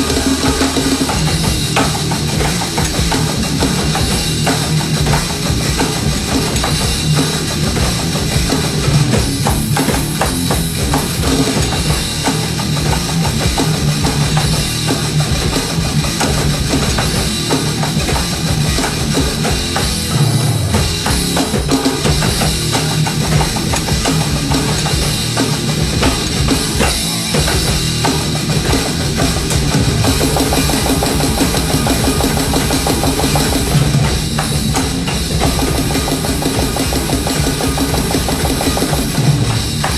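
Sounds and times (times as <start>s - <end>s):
bass drum and snare: 0.0s - 39.9s
live band playing: 0.0s - 39.9s.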